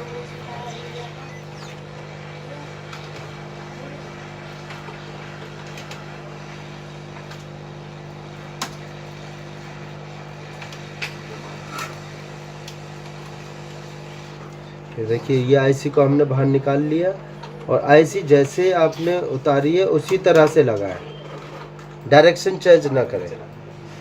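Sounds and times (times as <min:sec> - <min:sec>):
hot-air blower humming: 0:00.0 - 0:24.0.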